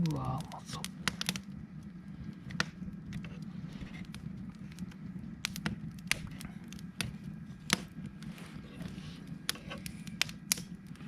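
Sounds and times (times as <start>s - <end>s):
campfire crackling and popping: 0.0s - 11.0s
low steady rumble: 0.0s - 11.0s.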